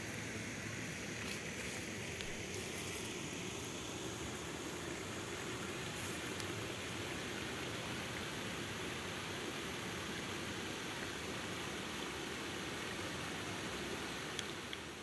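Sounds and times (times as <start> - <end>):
water rushing over cascade: 0.0 - 15.0.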